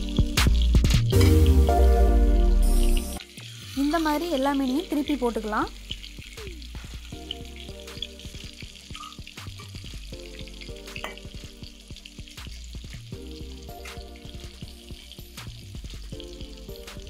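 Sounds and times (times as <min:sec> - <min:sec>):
fish sizzling in hot oil: 0:00.0 - 0:17.0
soft background music: 0:00.0 - 0:17.0.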